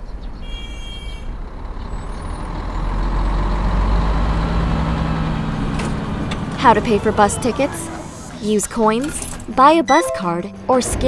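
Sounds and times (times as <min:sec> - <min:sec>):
bus engine rumble: 0:00.0 - 0:09.7.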